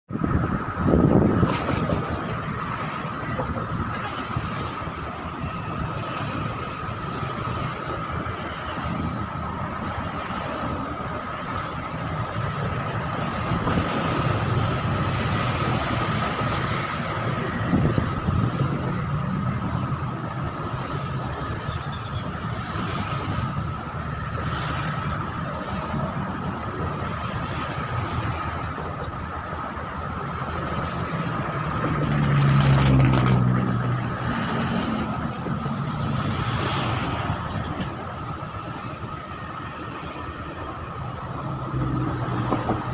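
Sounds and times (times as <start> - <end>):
engines rumbling: 0.1 - 42.9.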